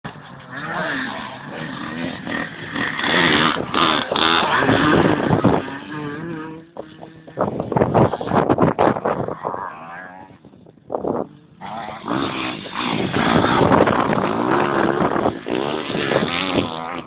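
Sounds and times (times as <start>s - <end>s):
motocross bike engines revving: 0.1s - 17.0s.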